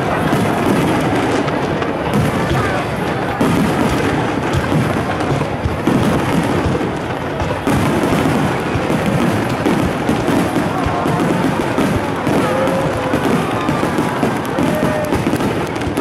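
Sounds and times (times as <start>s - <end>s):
fireworks booming and crackling: 0.0s - 16.0s.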